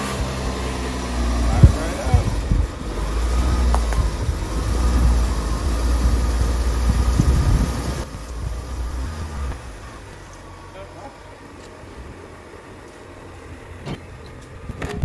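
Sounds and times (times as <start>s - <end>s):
car engine idling: 0.0s - 15.0s
engine knocks: 0.0s - 15.0s.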